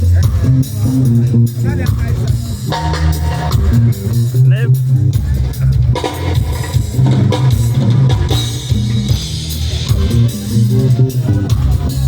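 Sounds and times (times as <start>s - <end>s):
bass guitar: 0.0s - 12.0s
drum kit: 0.0s - 12.0s
electric guitar: 0.0s - 12.0s.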